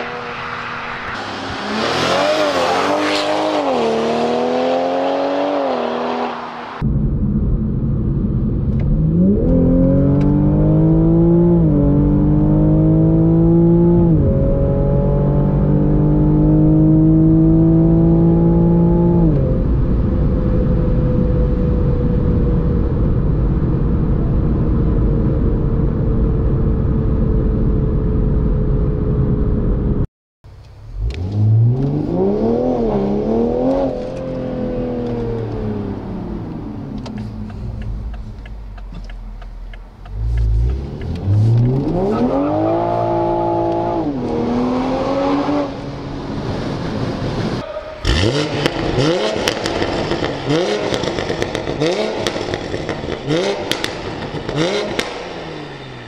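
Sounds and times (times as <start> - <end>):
car engine revving at full throttle: 0.0 - 30.0, 30.7 - 56.0.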